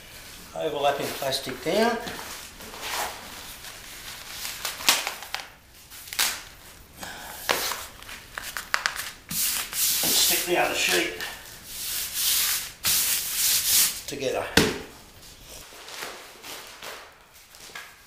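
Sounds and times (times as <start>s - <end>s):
plastic film rustling and crinkling: 0.1s - 12.1s, 15.3s - 18.0s.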